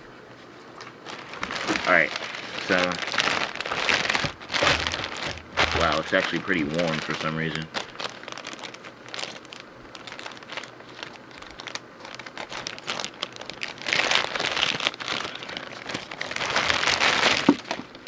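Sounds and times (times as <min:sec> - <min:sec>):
packaging crinkling and rustling: 0:00.8 - 0:18.0.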